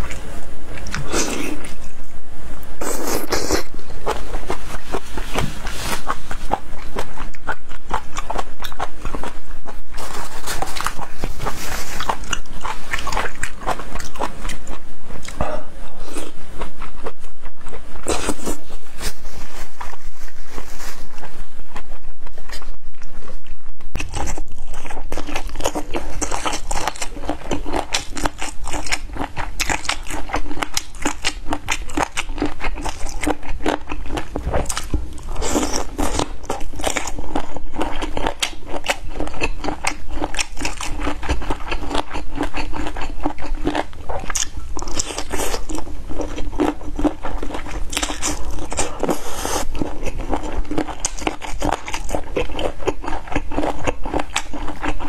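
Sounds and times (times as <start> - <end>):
loud chewing and lip-smacking: 6.0 - 9.8, 10.6 - 18.6, 21.2 - 55.0.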